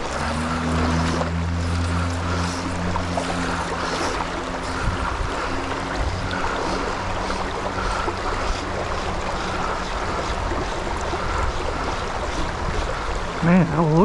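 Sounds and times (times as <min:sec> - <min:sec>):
creek water over gravel: 0:00.0 - 0:14.0
wind rumble on microphone: 0:00.0 - 0:14.0.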